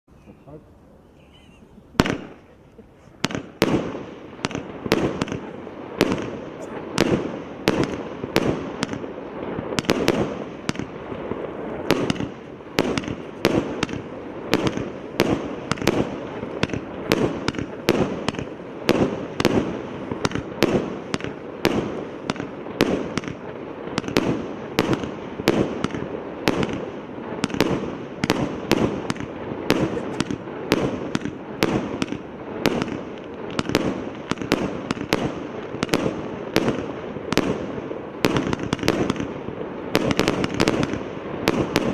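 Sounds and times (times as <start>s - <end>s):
firework hiss: 0.1s - 41.9s
firework cake bangs: 3.2s - 41.9s.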